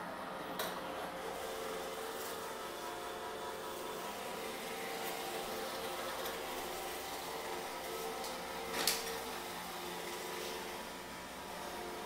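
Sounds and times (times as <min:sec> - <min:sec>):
robot vacuum motor hum: 0:00.8 - 0:12.0.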